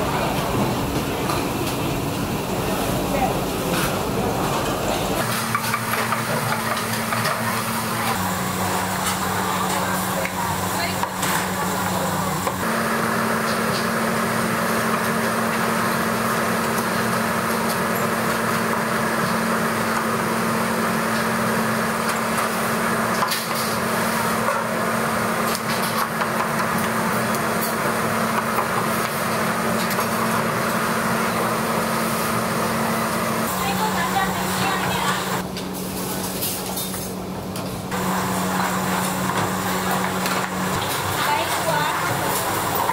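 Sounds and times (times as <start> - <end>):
kitchen machinery drone: 0.0 - 42.9.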